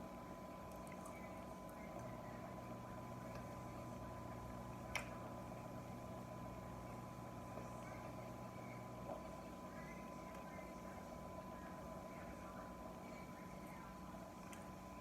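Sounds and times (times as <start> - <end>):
faint constant tone: 0.0 - 15.0
steady low hum: 0.0 - 15.0.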